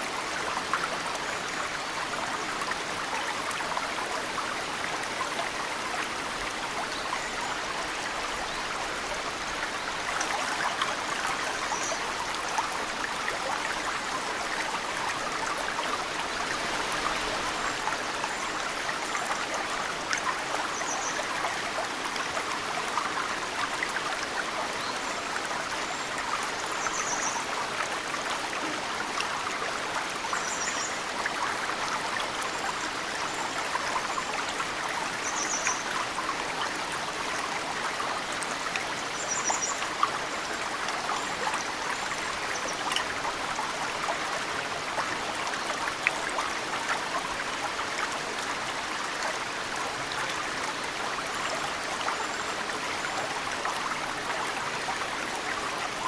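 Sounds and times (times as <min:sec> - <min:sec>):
mountain stream running: 0:00.0 - 0:56.0.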